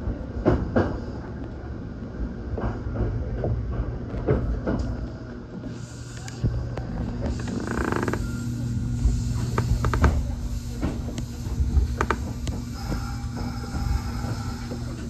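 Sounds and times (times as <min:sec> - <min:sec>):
train running hum: 0:00.0 - 0:15.0.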